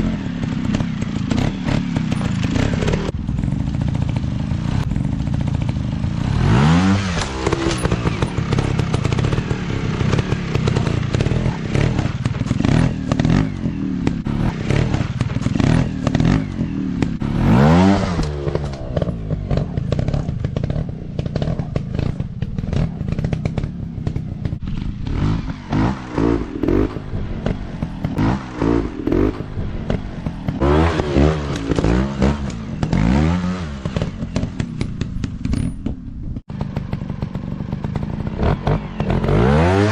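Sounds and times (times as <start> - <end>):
steady clatter: 0.0 - 39.4
dirt bike engines revving: 0.0 - 39.9.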